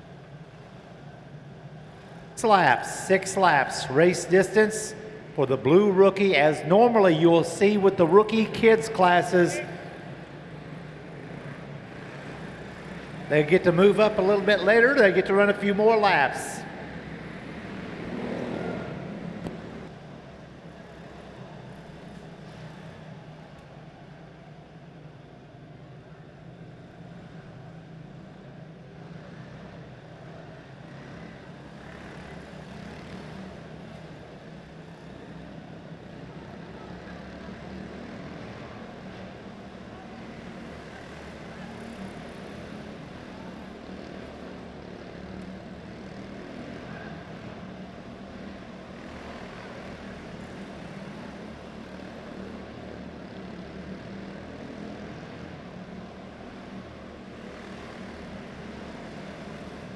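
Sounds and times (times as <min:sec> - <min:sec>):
small race car engines buzzing: 0:00.0 - 0:59.9.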